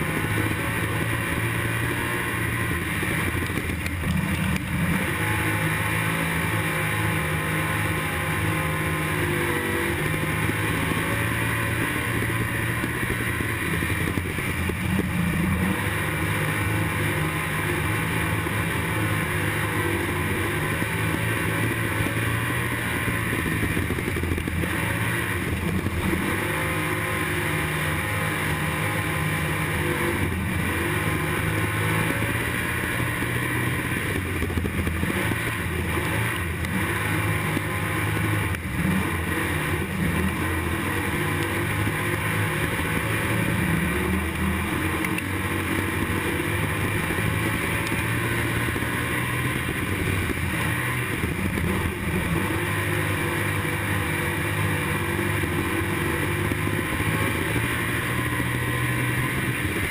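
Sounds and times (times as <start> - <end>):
racing car engine: 0.0 - 59.9.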